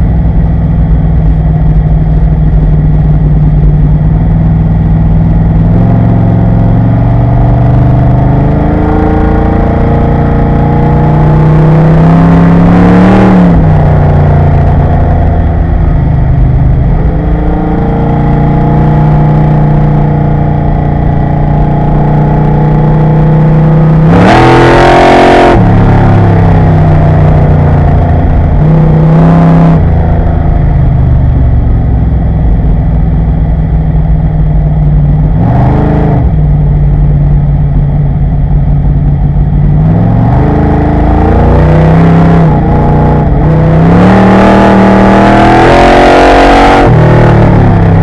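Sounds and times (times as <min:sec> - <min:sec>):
race car engine accelerating: 0:02.4 - 0:31.8, 0:32.5 - 0:48.0.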